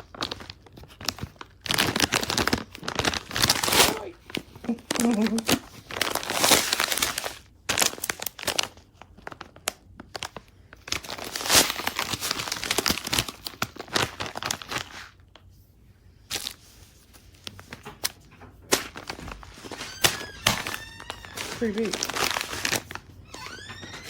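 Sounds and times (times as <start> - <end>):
plastic packaging crinkling: 0.0 - 15.5, 16.2 - 24.0.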